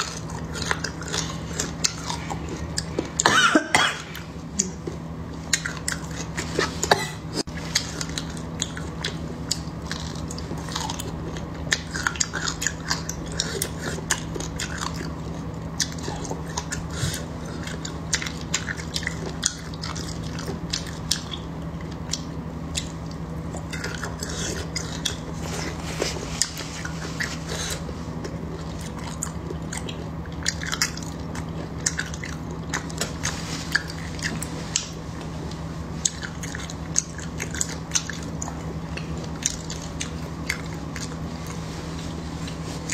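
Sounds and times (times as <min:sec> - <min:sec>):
close chewing with clicks: 0:00.0 - 0:03.3, 0:04.1 - 0:42.9
steady low hum: 0:00.0 - 0:42.9.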